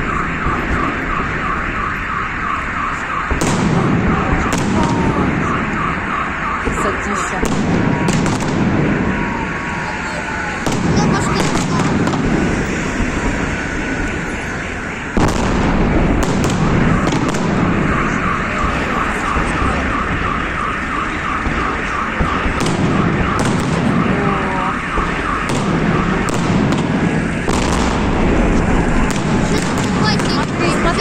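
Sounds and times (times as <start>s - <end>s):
car alarm chirping: 0.0s - 31.0s
fireworks bursting: 0.0s - 31.0s.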